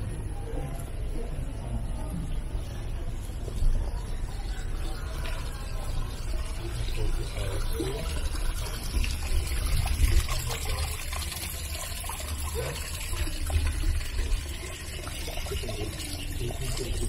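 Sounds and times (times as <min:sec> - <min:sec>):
water trickling: 0:02.8 - 0:17.0.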